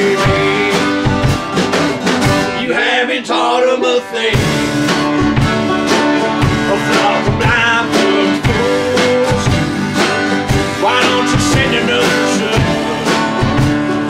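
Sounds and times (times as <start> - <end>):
acoustic guitar strummed: 0.0 - 14.0.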